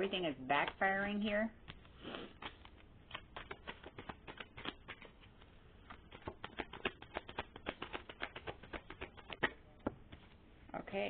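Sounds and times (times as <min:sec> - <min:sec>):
cards being shuffled by hand: 0:00.1 - 0:10.5.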